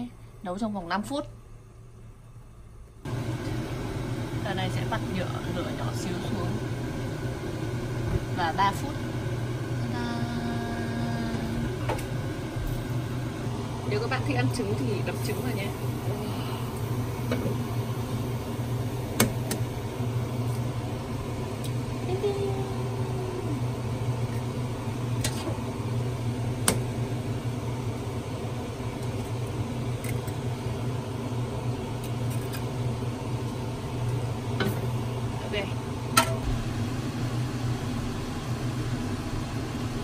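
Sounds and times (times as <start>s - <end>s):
low kitchen hum: 0.0s - 40.0s.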